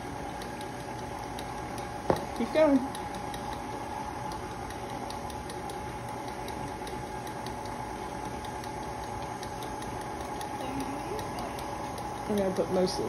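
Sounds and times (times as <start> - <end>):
light regular ticking: 0.0 - 13.0
stand mixer motor hum: 0.0 - 13.0.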